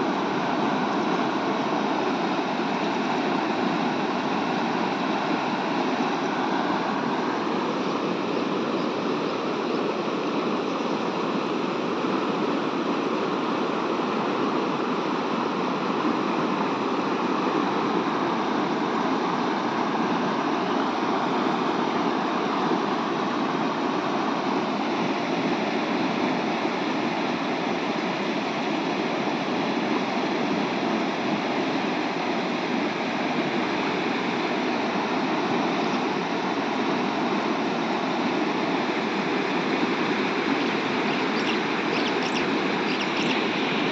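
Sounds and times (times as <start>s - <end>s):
river rushing over rocks: 0.0s - 43.9s.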